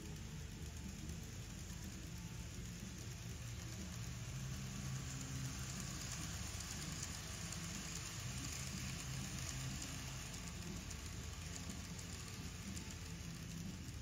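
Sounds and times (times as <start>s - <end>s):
low motor hum: 0.0s - 14.0s
model train wheels clattering: 0.0s - 14.0s.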